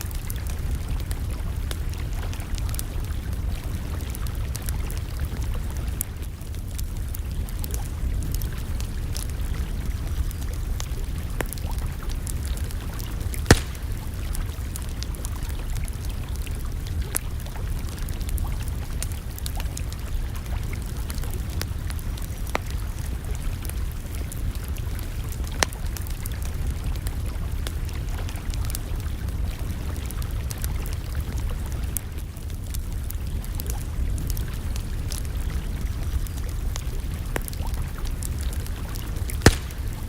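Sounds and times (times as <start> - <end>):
campfire crackling and popping: 0.0 - 40.0.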